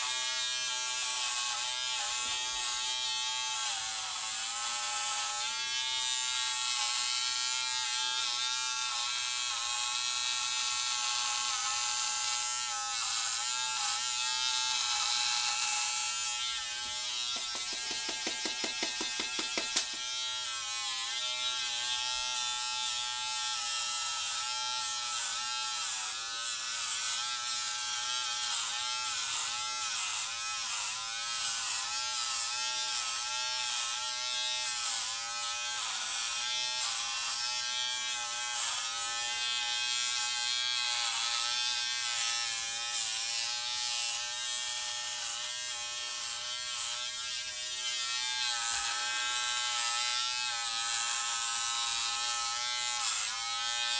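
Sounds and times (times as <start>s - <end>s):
electric trimmer buzzing: 0.0s - 53.9s.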